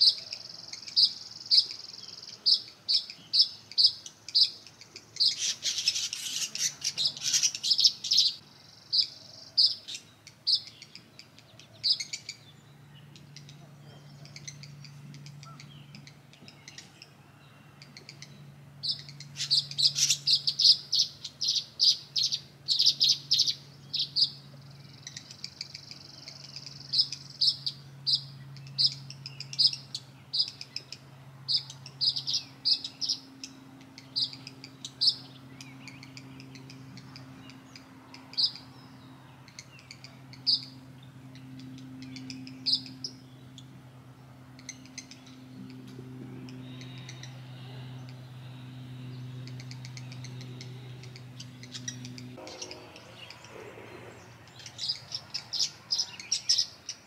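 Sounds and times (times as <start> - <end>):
buzzy bird trill: 0.0 - 16.9, 18.0 - 43.7, 48.1 - 57.0
faint low hum: 0.0 - 57.0
swallows chirping: 0.0 - 57.0.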